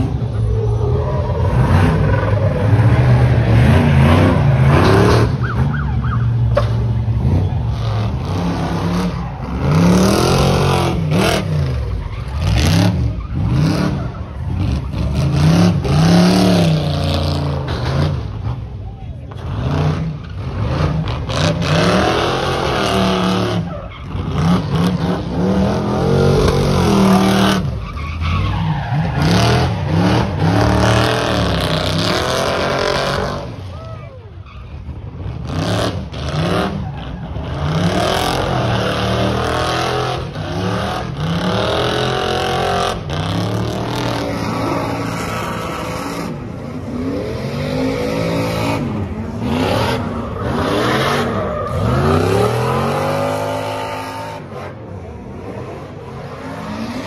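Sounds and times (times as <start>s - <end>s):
vehicle engines revving: 0.0s - 57.0s.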